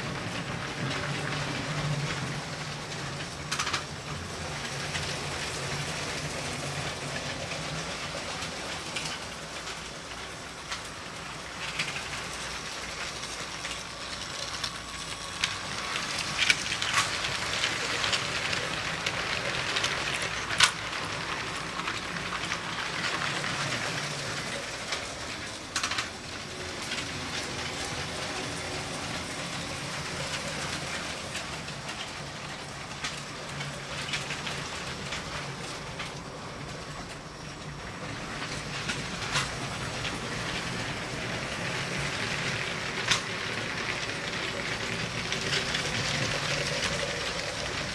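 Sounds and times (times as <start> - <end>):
toy train rolling on track: 0.0 - 47.9.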